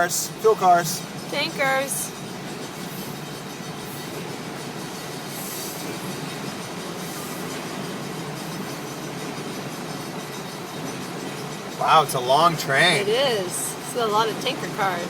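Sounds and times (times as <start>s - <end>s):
steel train wheels on rails: 0.0s - 15.0s.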